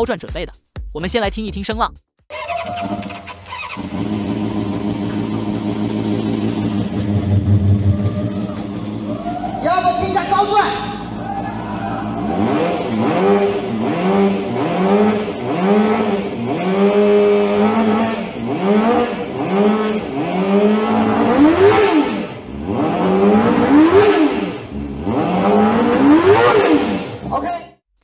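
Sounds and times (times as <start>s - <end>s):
motorcycle engine revving: 2.3s - 27.5s.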